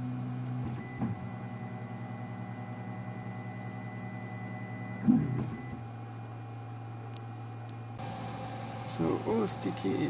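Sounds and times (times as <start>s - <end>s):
printer motors humming: 0.0s - 10.0s.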